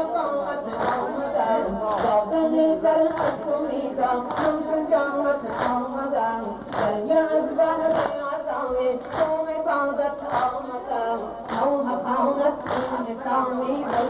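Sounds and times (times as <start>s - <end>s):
mourning chant singing: 0.0s - 14.0s.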